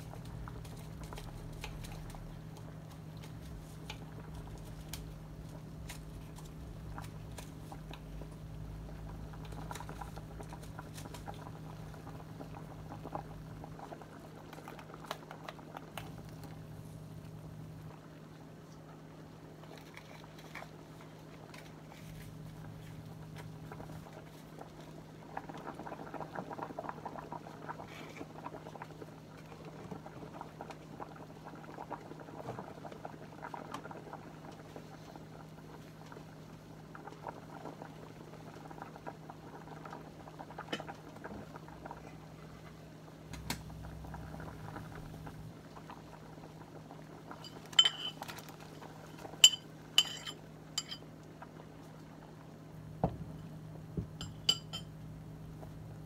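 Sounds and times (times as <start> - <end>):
soup bubbling at a rolling boil: 0.0 - 56.0.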